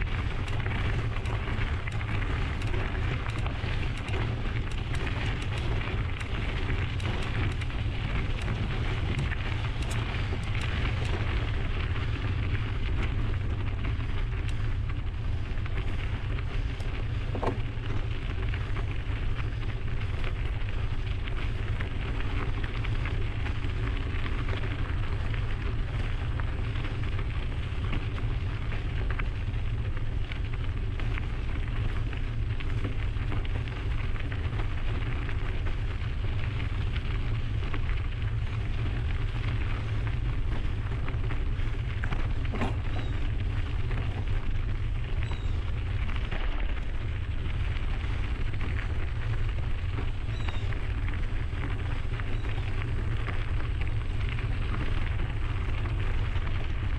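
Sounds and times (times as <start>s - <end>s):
bike tyres crunching on trail: 0.0s - 56.9s
wind rumble on microphone: 0.0s - 56.9s.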